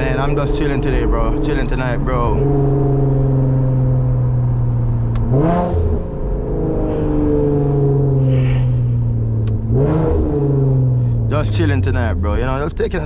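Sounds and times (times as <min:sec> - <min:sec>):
car engine and exhaust droning: 0:00.0 - 0:13.0.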